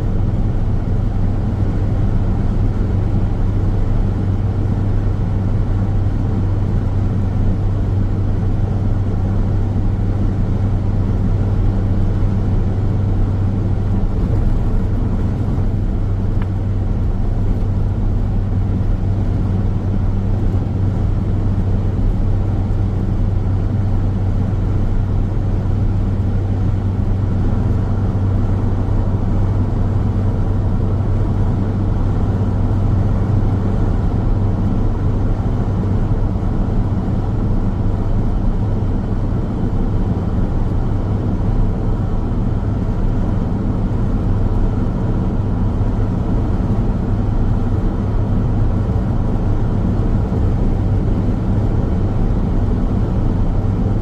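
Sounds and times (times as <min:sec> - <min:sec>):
car road noise: 0:00.0 - 0:54.0.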